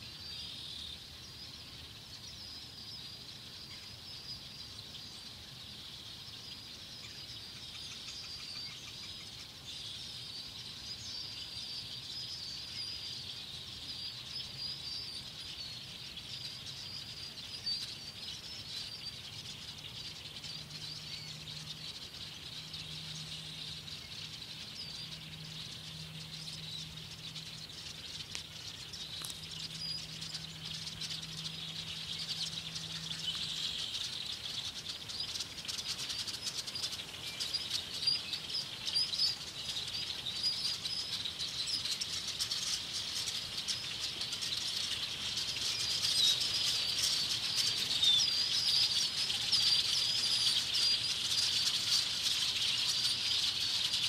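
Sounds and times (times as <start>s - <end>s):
flock of birds chirping: 0.0s - 54.0s.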